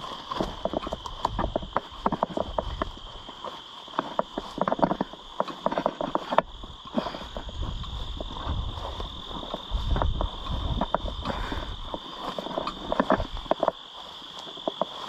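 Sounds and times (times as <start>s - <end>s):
footsteps through dry weeds: 0.0s - 15.0s
insect chorus: 0.0s - 15.0s.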